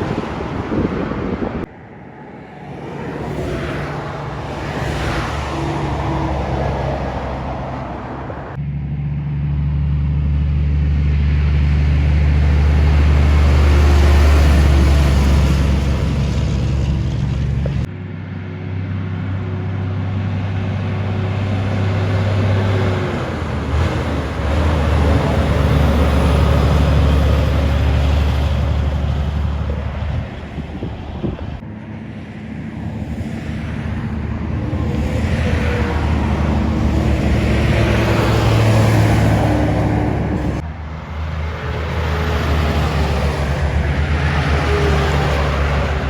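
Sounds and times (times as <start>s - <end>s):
diesel truck engines driving past: 0.0s - 46.0s.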